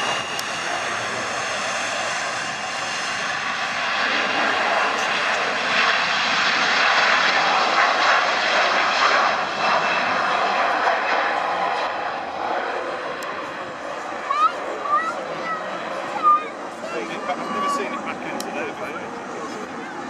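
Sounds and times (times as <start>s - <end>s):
jet engines rushing and whining: 0.0s - 20.0s.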